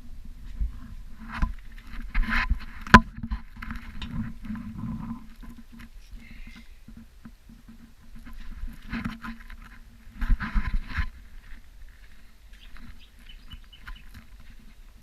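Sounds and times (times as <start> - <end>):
knocks and scrapes of handling: 0.4 - 15.0.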